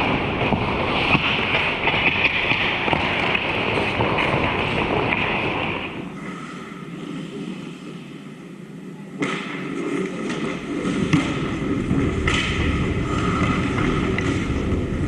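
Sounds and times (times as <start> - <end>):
skates scraping on ice: 0.0 - 8.6, 9.2 - 15.0
hockey sticks and puck clacking: 0.0 - 15.0.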